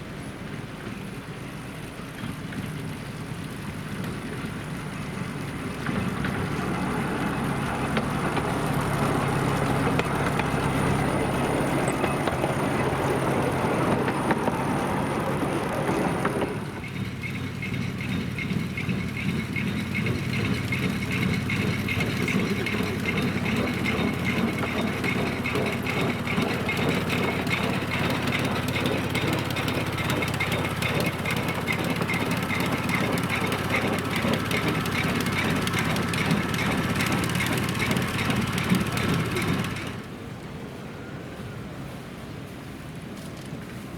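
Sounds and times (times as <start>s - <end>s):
train running on track: 0.0s - 43.9s.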